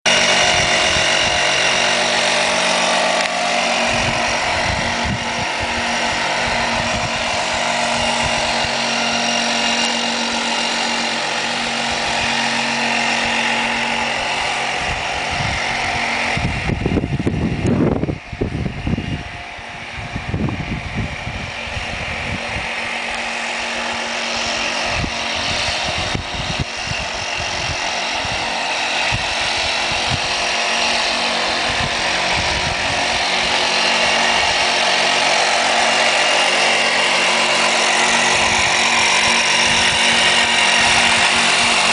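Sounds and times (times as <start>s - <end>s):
heavy low rumbling: 0.0s - 41.9s
model boat motor whining: 0.0s - 41.9s.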